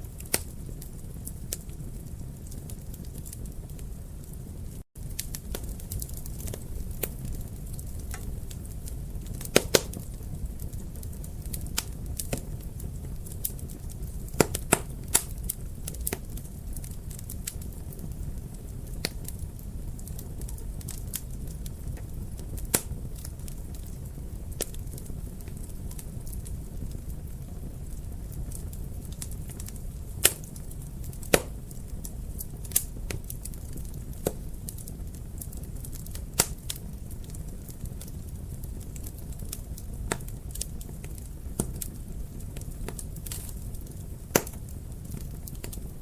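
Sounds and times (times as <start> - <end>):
logs crackling and popping: 0.0 - 46.0
low rumble of flames: 0.0 - 46.0.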